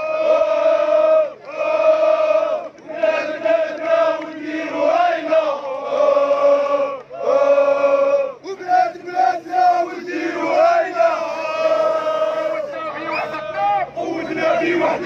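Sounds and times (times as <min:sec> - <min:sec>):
crowd of men chanting: 0:00.0 - 0:15.0.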